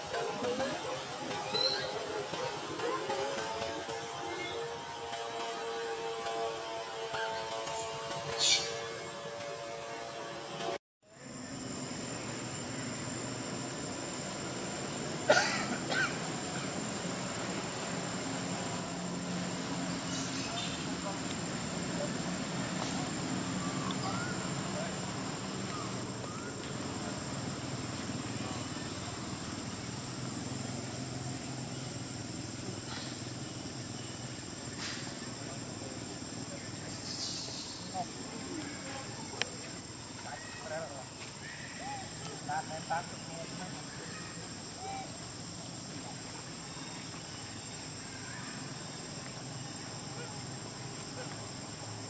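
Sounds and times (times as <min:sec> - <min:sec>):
faint outdoor hiss: 0:08.2 - 0:52.0.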